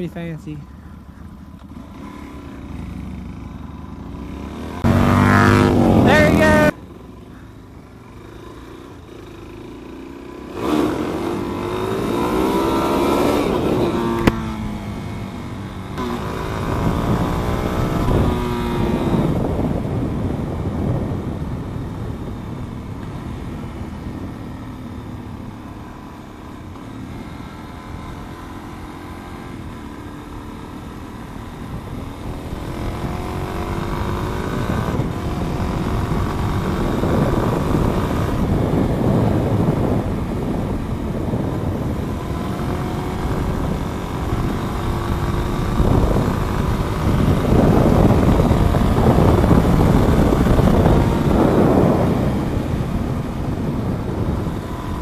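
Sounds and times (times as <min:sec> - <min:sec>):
motorcycle engine running: 0:00.0 - 0:55.0
wind rush on microphone: 0:04.6 - 0:06.8, 0:10.5 - 0:25.4, 0:27.8 - 0:55.0.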